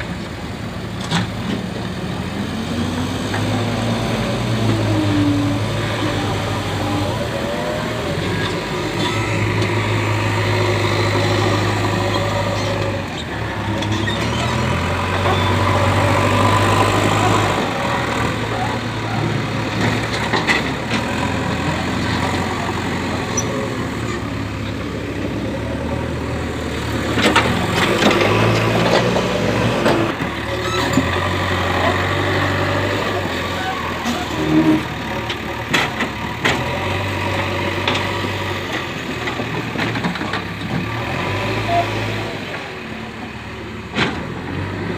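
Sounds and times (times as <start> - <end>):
diesel engine under changing load: 0.0 - 44.9.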